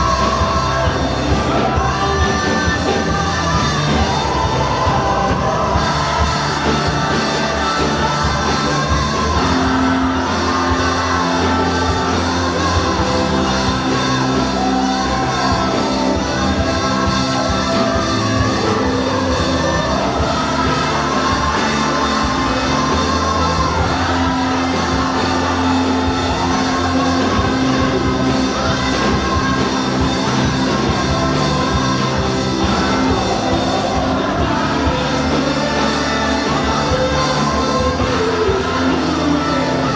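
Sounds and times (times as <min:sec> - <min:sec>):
gospel band playing live: 0:00.0 - 0:39.9
person singing: 0:00.0 - 0:39.9.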